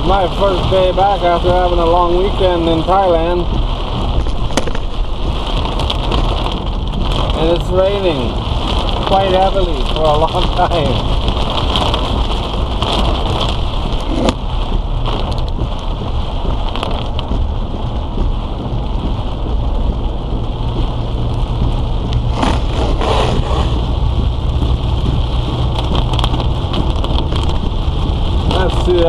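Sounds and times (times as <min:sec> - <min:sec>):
engine and tyre rumble: 0:00.0 - 0:29.0
heavy rain on car: 0:00.0 - 0:29.0.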